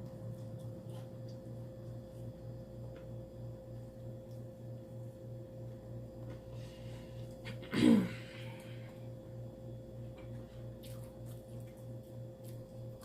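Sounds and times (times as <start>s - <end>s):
pulsing electrical hum: 0.0s - 13.0s.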